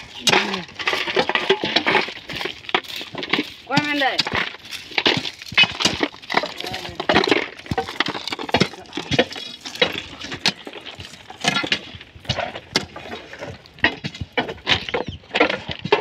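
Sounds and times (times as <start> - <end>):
stone ballast clinking and clattering: 0.0 - 16.0.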